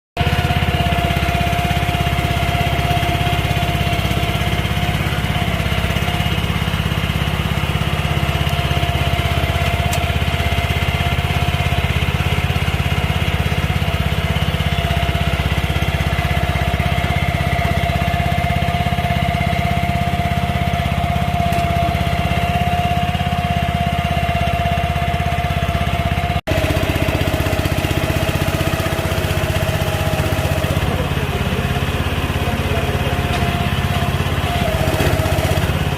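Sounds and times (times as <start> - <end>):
small engine droning: 0.2 - 35.9.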